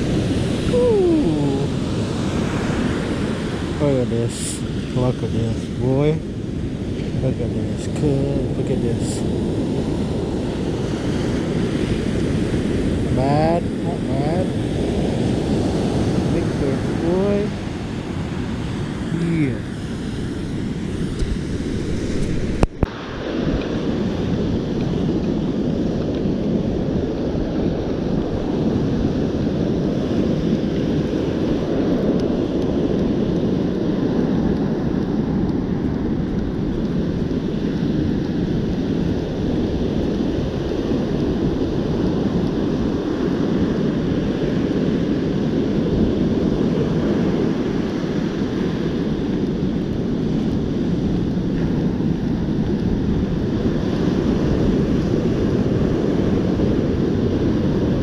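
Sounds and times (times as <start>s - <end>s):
surf breaking on beach: 0.0s - 58.0s
wind on microphone: 0.0s - 58.0s.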